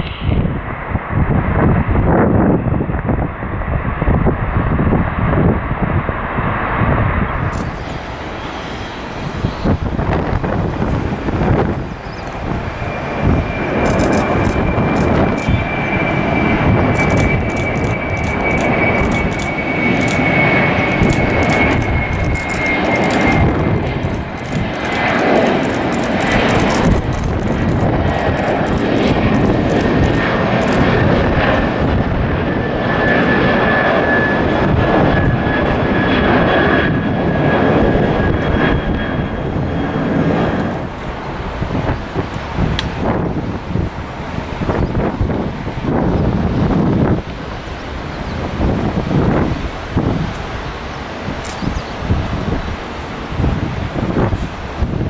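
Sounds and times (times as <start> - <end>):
crackles in jet noise: 0.0 - 55.0
jet airliner climbing: 0.0 - 55.0
high engine whine: 5.3 - 55.0.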